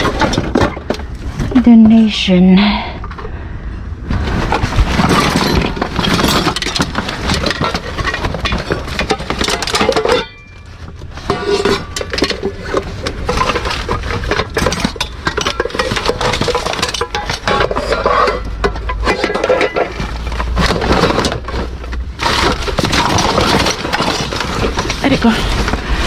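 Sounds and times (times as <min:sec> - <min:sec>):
rummaging and clattering in a dumpster: 0:00.0 - 0:26.0.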